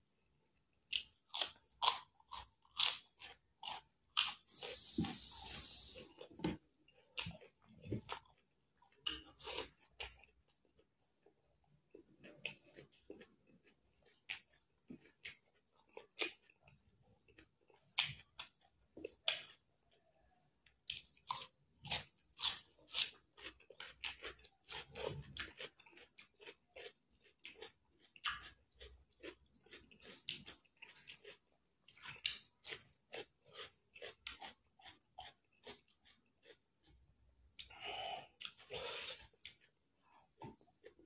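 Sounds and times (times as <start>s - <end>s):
wet chewing and lip smacks: 0.8s - 41.0s.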